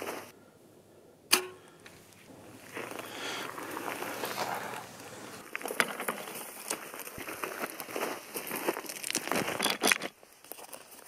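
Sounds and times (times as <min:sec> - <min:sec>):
rustling and crunching: 0:01.9 - 0:11.0.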